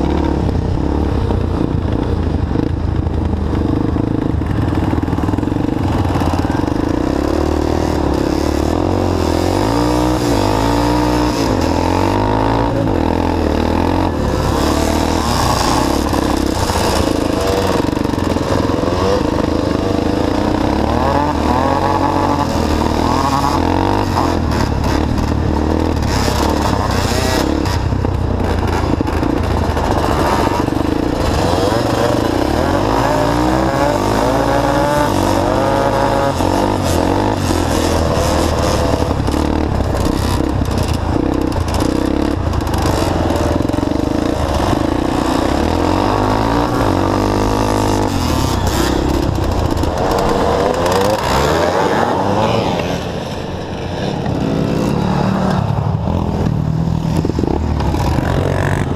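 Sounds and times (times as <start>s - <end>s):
other quad bike engines: 0.0s - 58.9s
quad bike engine revving: 0.0s - 58.9s.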